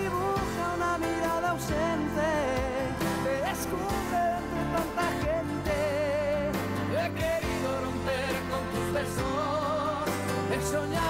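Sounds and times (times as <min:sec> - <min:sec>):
bass and drums: 0:00.0 - 0:11.0
person singing a ballad: 0:00.0 - 0:11.0.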